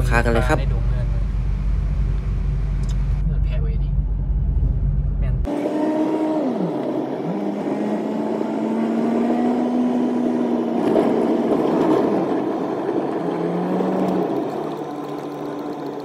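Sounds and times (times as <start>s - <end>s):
truck engine drone: 0.0s - 16.0s
tyre and road noise: 0.0s - 16.0s.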